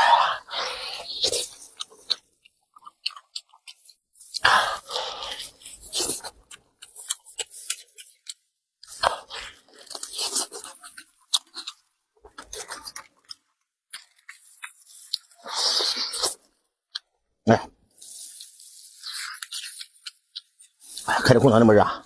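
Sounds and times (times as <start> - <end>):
person chewing and eating: 0.0 - 17.3, 17.9 - 21.3.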